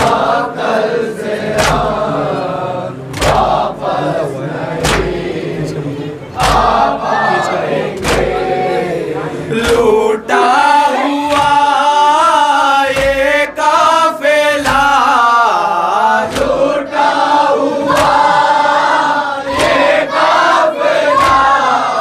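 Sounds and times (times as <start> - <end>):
men singing a lament in unison: 0.0 - 22.0.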